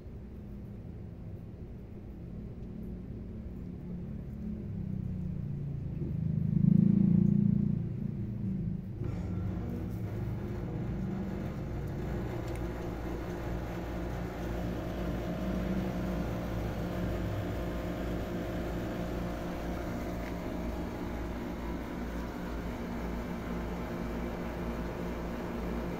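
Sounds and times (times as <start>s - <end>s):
low mechanical rumble: 0.0s - 25.9s.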